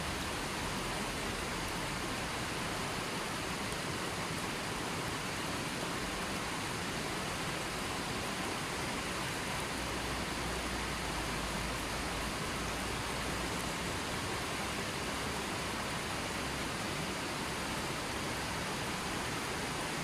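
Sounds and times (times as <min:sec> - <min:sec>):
river water rushing over rocks: 0:00.0 - 0:20.0.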